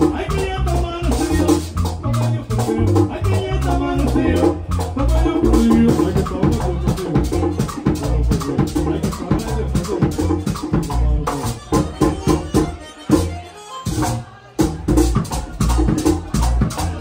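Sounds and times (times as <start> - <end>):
guira scraping a rhythm: 0.0 - 17.0
latin dance band playing: 0.0 - 17.0.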